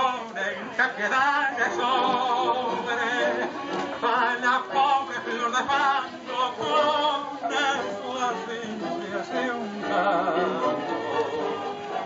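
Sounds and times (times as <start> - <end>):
dance music: 0.0 - 12.0
person singing with vibrato: 0.0 - 12.0.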